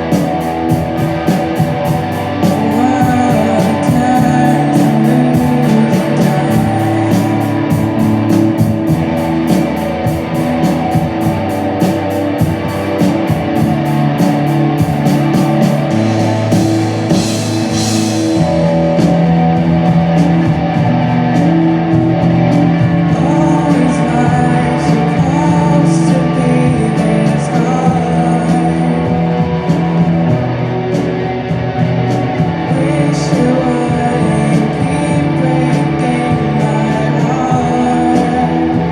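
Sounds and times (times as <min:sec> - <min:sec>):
person singing: 0:00.0 - 0:31.2, 0:32.3 - 0:38.9
rock band playing: 0:00.0 - 0:38.9.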